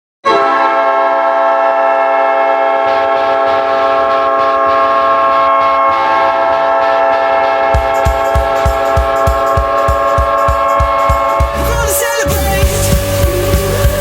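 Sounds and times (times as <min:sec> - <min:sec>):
goal horn blast: 0:00.2 - 0:13.3.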